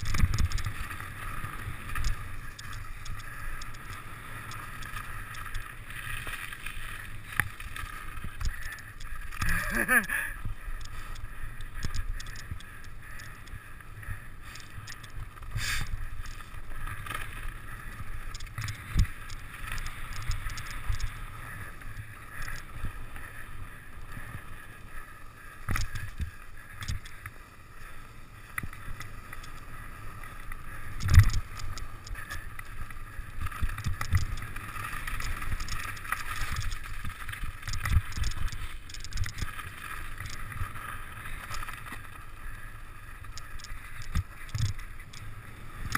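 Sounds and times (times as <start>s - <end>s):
bike tyres on trail: 0.0s - 45.9s.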